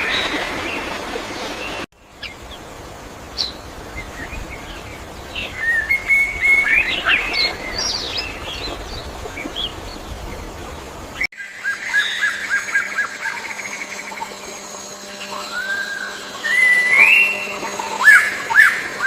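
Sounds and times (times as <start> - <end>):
songbirds chirping: 1.5 - 19.0.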